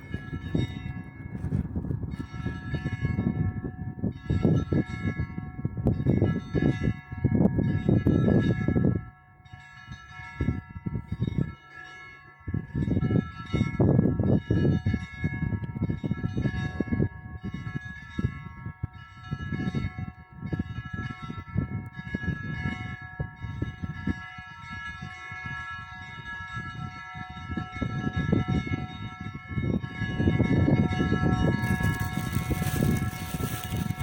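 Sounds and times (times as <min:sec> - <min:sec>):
church bells pealing: 0:00.0 - 0:34.0.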